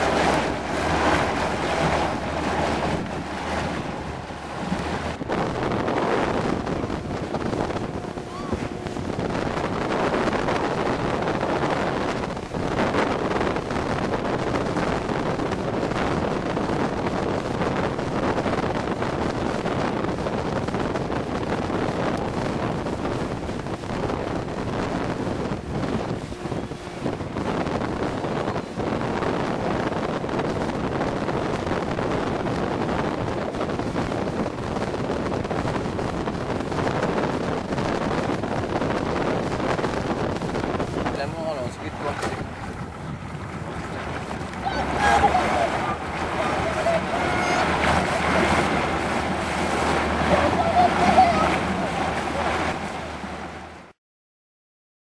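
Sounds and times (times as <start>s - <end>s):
wind buffeting microphone: 0.0s - 53.9s
water rushing in boat wake: 0.0s - 54.0s.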